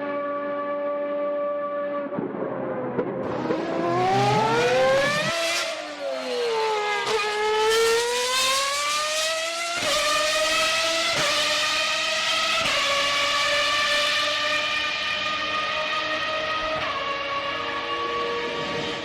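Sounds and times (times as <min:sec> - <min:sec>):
racing car engine whining at high revs: 0:00.0 - 0:19.0.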